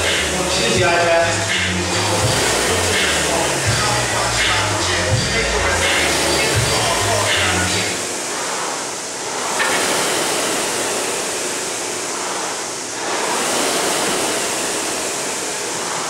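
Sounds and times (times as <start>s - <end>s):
rowing machine flywheel whooshing: 0.0s - 16.0s.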